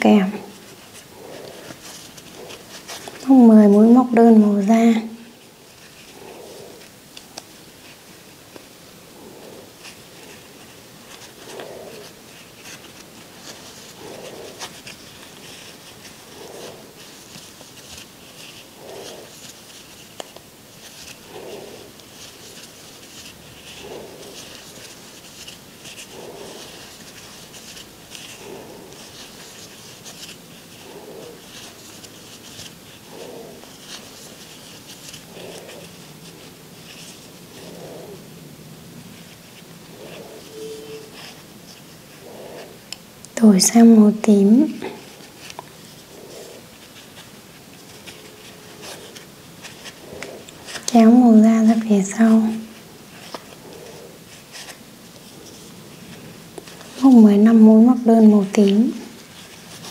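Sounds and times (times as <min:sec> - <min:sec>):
crochet hook and yarn rustling: 0:00.0 - 0:59.9.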